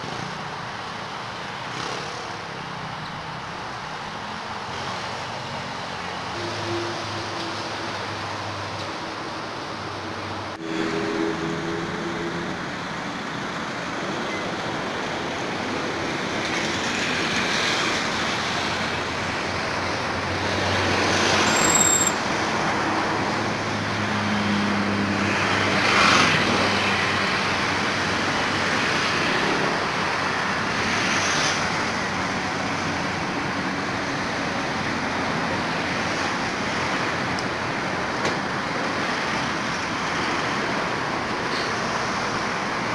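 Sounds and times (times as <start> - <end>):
road traffic noise: 0.0 - 42.9
vehicles passing: 0.0 - 42.9.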